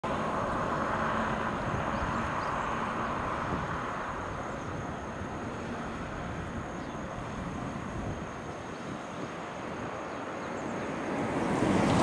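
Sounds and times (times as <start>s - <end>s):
distant train rumble and hiss: 0.1s - 12.0s.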